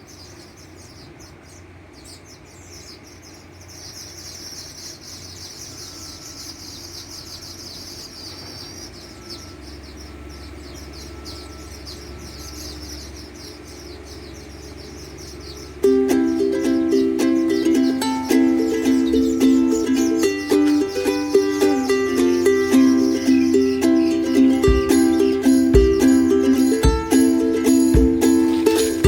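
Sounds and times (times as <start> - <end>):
birds chattering: 0.0 - 29.0
steady low hum: 0.0 - 29.0.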